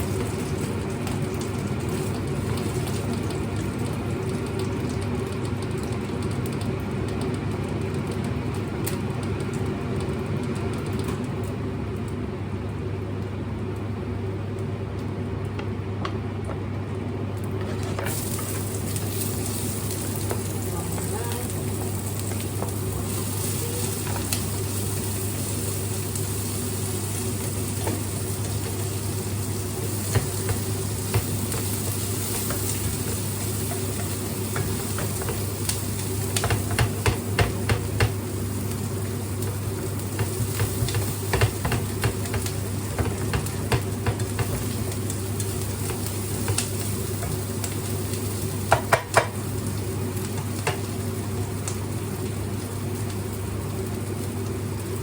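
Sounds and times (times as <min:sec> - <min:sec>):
food sizzling in a frying pan: 0:00.0 - 0:12.0, 0:17.3 - 0:55.0.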